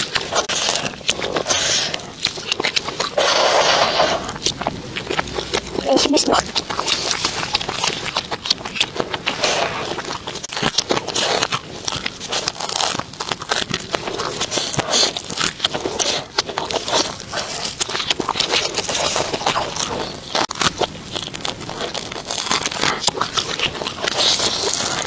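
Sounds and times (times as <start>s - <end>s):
crunching and chewing food: 0.0s - 25.0s.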